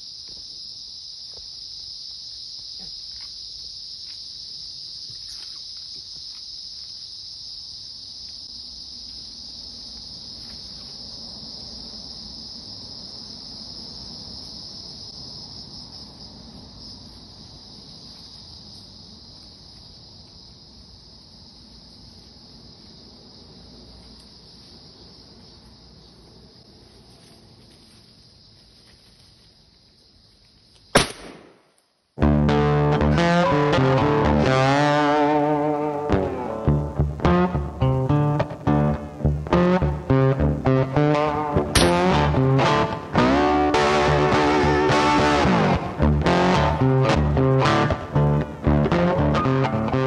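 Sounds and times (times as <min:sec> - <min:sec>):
high-pitched insect chorus: 0:00.0 - 0:50.0.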